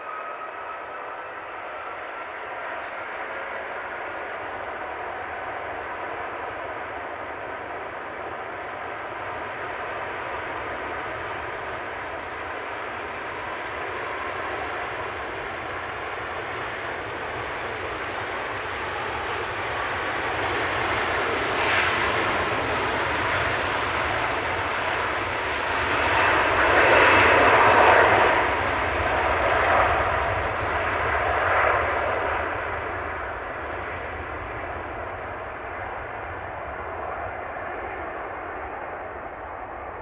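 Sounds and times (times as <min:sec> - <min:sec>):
jet engines at takeoff: 0:00.0 - 0:40.0.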